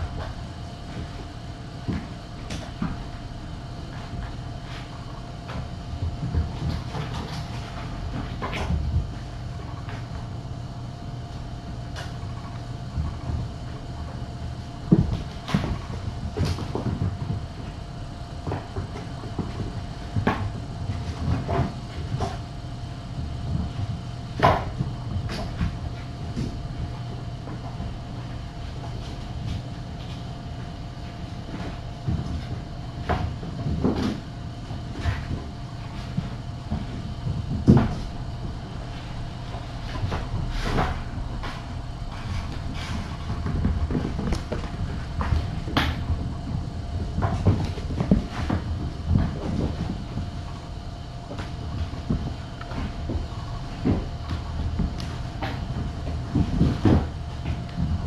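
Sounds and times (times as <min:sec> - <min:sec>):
kittens thumping and scampering: 0:00.0 - 0:58.0
steady low hum: 0:00.0 - 0:58.0.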